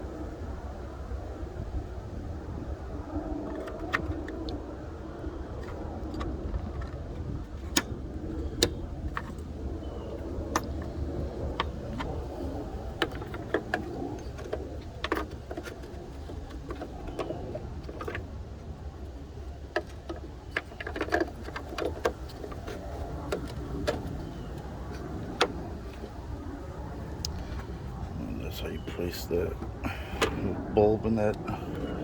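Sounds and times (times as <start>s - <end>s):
low background rumble: 0.0s - 32.0s.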